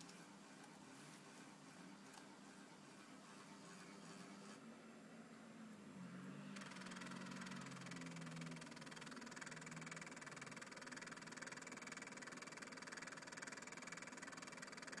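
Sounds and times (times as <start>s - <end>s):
floppy drive motor whirring: 0.0s - 4.7s, 6.4s - 15.0s.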